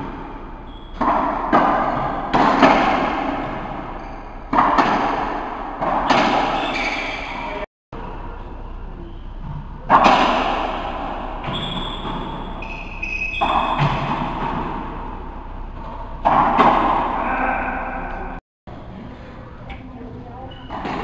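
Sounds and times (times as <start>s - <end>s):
racquetball hits echoing: 0.0s - 8.3s, 9.4s - 18.4s.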